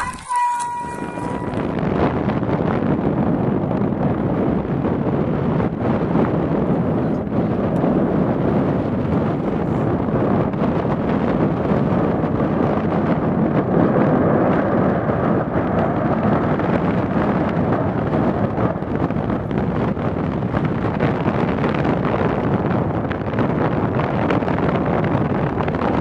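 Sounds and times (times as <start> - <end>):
wind on microphone: 0.0 - 26.0
rumbling roar of eruption: 1.4 - 26.0.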